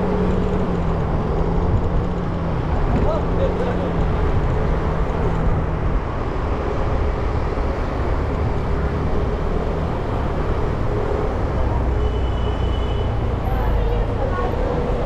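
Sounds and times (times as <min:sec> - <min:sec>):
road and wind rumble: 0:00.0 - 0:15.0.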